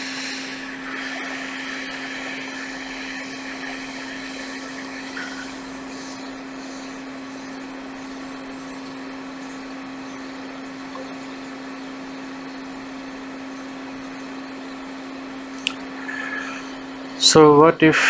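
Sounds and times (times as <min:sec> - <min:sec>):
fan hum: 0:00.0 - 0:18.0
hot air station airflow hiss: 0:00.0 - 0:18.0.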